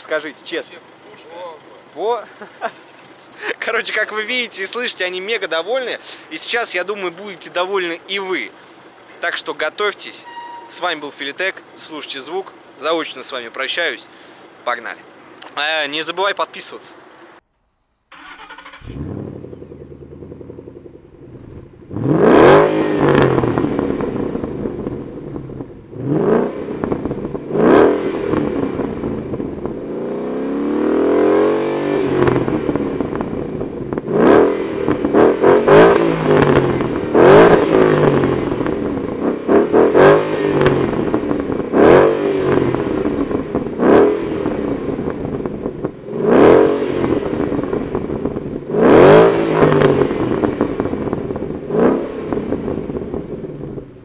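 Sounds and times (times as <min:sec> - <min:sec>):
car engine idling and revving: 0:00.0 - 0:16.0, 0:17.0 - 0:54.0.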